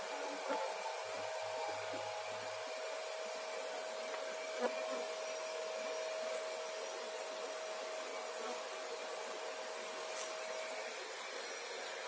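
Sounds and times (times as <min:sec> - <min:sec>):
bee vacuum running: 0:00.0 - 0:12.0.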